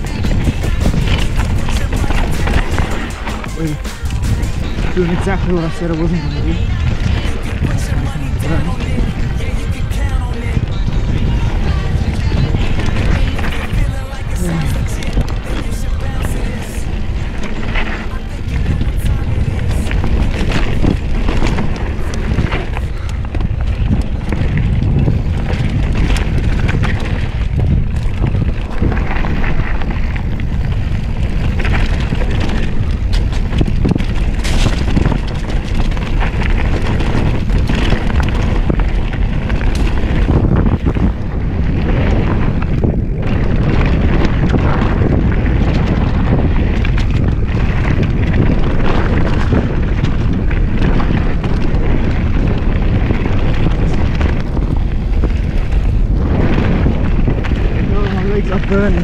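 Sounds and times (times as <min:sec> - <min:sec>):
bike clicks and rattles: 0:00.0 - 0:59.0
bike tyres rumbling on dirt: 0:00.0 - 0:59.0
wind buffeting microphone: 0:00.0 - 0:59.0.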